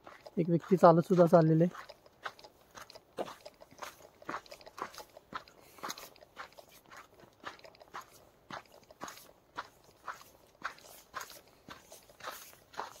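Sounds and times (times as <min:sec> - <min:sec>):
footsteps crunching on gravel: 0:00.0 - 0:13.0.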